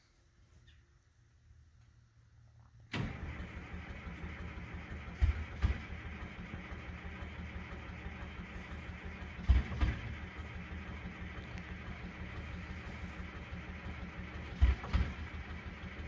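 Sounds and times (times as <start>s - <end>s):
diesel engine starting and running: 2.8s - 16.0s.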